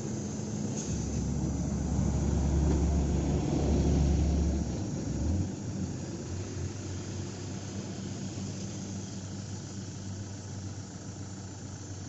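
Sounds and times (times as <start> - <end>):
truck diesel engine passing: 0.0 - 10.1
weak low hum: 0.0 - 10.7.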